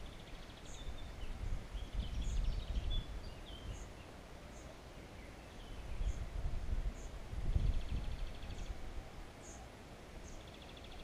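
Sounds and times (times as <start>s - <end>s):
birds chirping and trilling: 0.0s - 11.0s.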